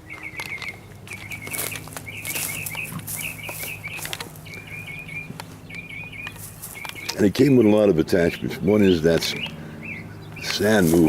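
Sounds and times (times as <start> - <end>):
faint low hum: 0.0 - 11.0
songbird chirping: 0.0 - 11.0.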